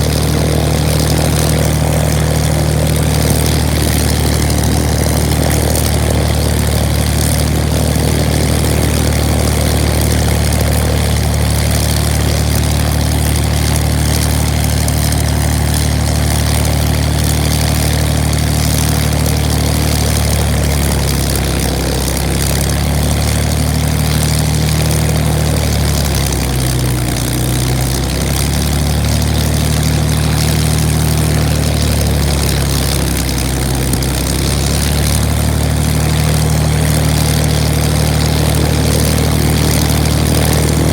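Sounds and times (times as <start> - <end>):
piston aircraft engine running: 0.0 - 40.9.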